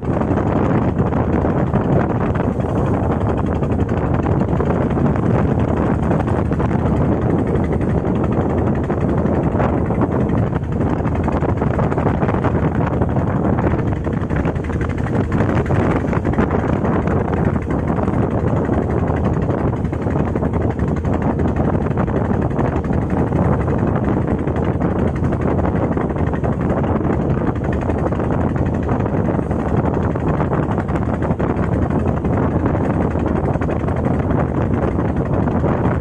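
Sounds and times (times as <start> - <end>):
boat engine running: 0.0 - 36.0
wind buffeting microphone: 0.0 - 36.0.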